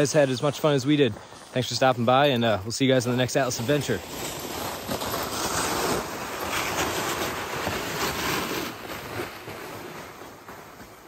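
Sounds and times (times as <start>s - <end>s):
footsteps crunching through snow: 0.0s - 11.0s
sled dragging over snow: 0.0s - 11.0s.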